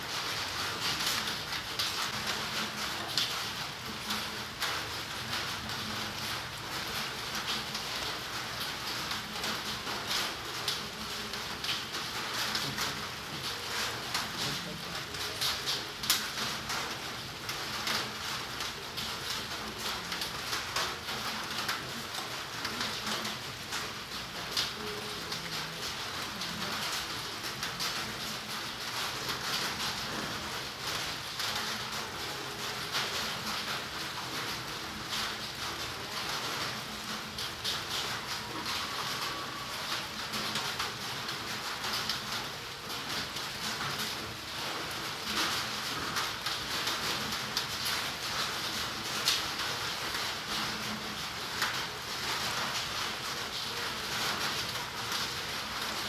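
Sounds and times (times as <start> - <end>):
outdoor hiss: 0.0 - 56.0
rain pattering: 0.0 - 56.0.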